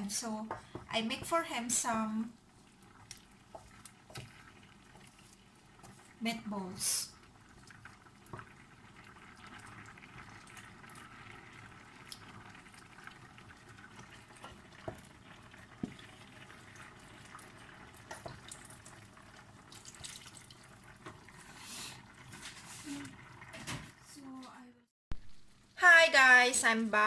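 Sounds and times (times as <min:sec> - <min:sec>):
pot simmering and bubbling: 0:00.0 - 0:24.3, 0:25.1 - 0:25.8.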